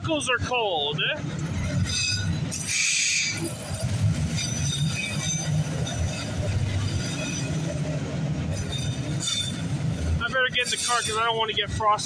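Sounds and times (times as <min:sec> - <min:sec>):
freight train wheels rumbling: 0:00.0 - 0:12.0
faint high wheel squeals: 0:01.6 - 0:11.5.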